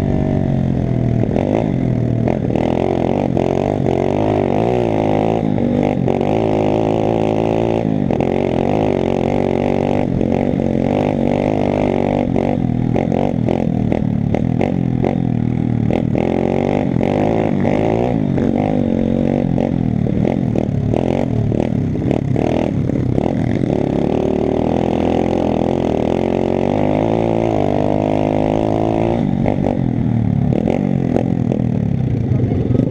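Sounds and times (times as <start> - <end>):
motorbike engine revving: 0.0 - 32.9.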